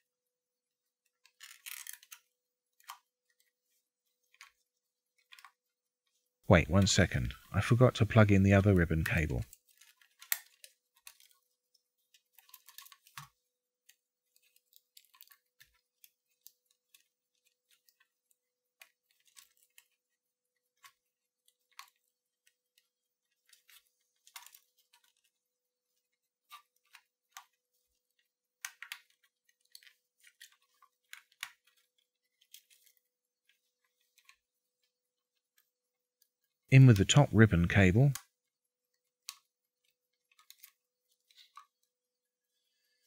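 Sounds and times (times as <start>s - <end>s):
small plastic parts clicking: 0.8s - 5.7s, 9.0s - 36.7s, 38.0s - 42.2s.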